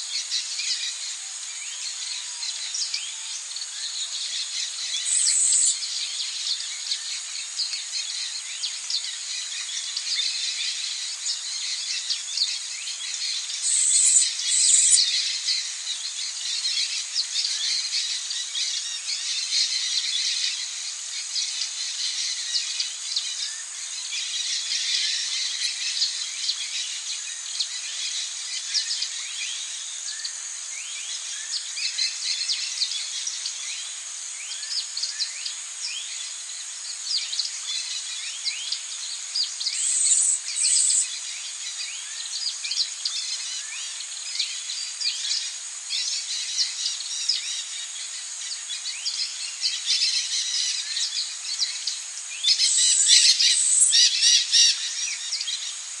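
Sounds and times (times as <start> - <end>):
steady high hiss: 0.0 - 56.0
wild birds chirping and calling: 0.0 - 56.0.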